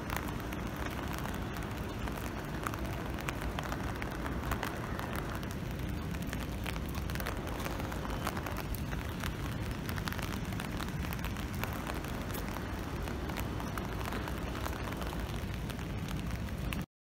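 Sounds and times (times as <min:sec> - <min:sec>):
drops ticking close by: 0:00.0 - 0:16.8
low steady rumble: 0:00.0 - 0:16.8
rain falling: 0:00.0 - 0:16.9.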